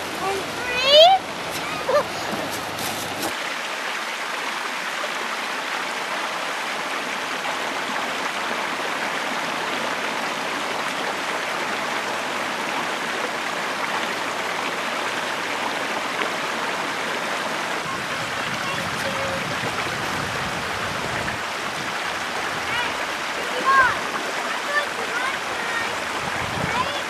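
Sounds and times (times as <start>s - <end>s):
creek water over rocks: 0.0s - 27.0s.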